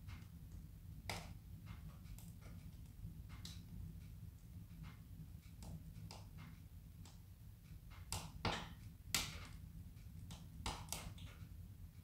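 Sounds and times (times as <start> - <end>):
low rumble of fire: 0.0 - 12.0
wood fire crackling and popping: 0.1 - 3.8, 4.4 - 11.5.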